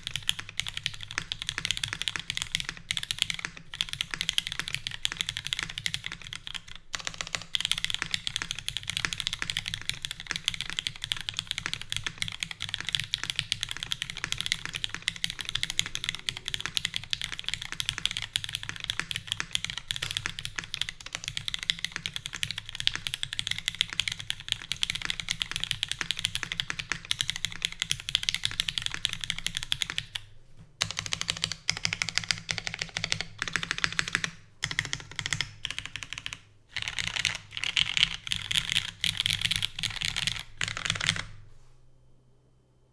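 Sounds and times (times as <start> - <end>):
mechanical keyboard typing: 0.0 - 30.2, 30.8 - 41.4.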